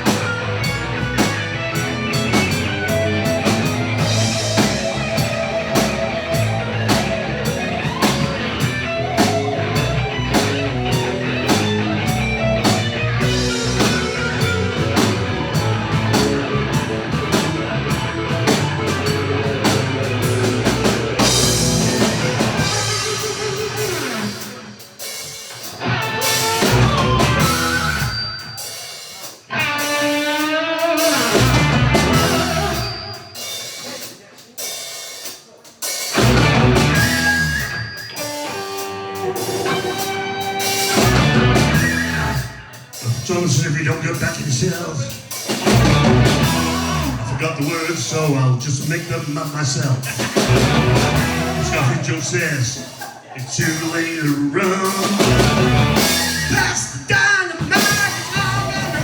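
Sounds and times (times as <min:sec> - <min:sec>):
electric guitar: 0:00.0 - 0:34.2, 0:36.1 - 0:48.3, 0:49.0 - 0:59.0
drum kit: 0:00.0 - 0:59.0.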